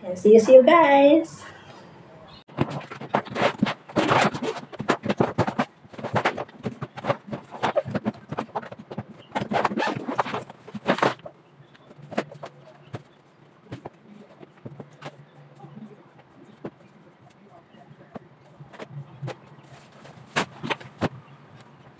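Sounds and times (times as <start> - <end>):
clothes rustling: 2.3 - 21.9.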